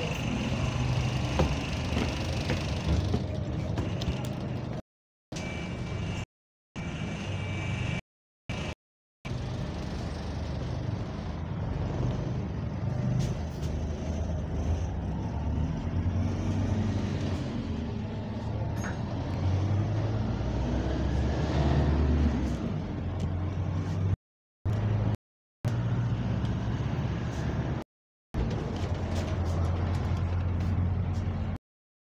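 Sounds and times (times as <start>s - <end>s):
bus engine drone: 0.0s - 4.8s, 5.4s - 27.8s, 28.4s - 31.6s.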